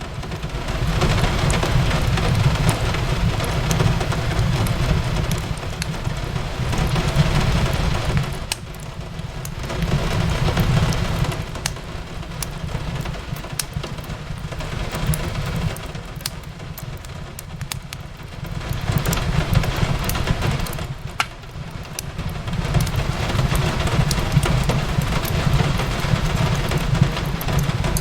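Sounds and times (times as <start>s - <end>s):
rain on a window: 0.0s - 28.0s
fireplace crackling: 0.3s - 28.0s.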